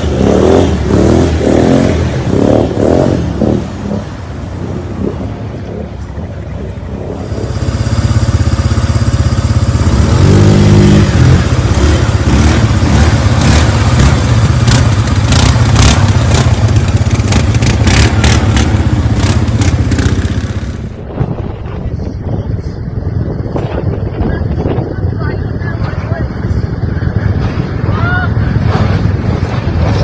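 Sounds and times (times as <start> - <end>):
off-road engine revving: 0.0 - 30.0.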